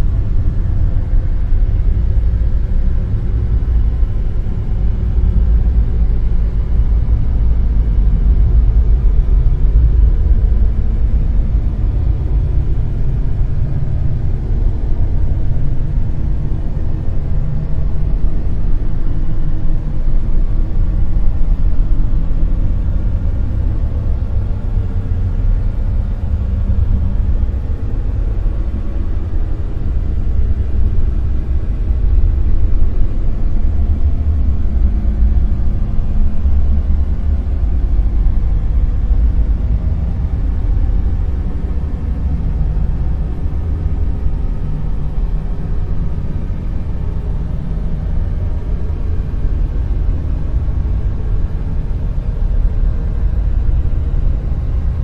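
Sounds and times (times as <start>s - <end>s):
deep rumbling hiss: 0.0s - 55.0s.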